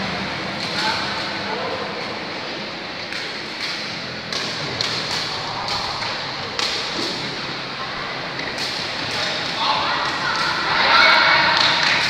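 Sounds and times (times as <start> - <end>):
crowd noise in hall: 0.0 - 12.0.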